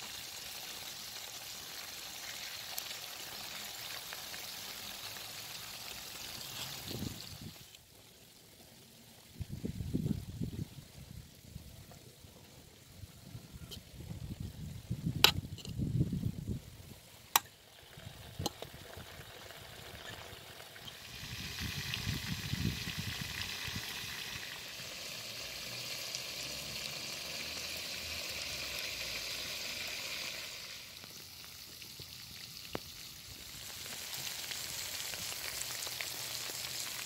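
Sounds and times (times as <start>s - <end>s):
food sizzling in oil: 0.0s - 16.2s, 16.8s - 37.0s.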